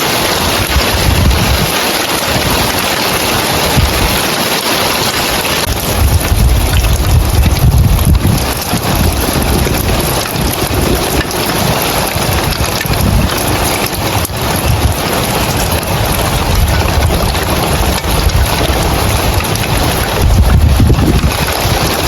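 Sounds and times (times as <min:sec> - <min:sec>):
heavy rain on roof tiles: 0:00.0 - 0:22.0
wind gusts on microphone: 0:00.0 - 0:22.0.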